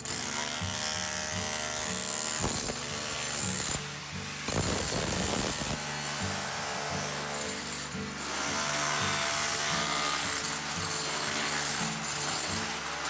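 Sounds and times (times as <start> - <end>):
background music: 0.0 - 13.0
electric chipping hammer on stone: 0.0 - 13.0.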